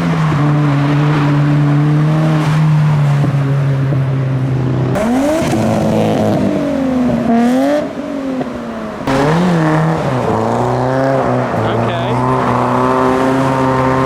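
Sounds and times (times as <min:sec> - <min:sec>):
car engines revving past: 0:00.0 - 0:14.0.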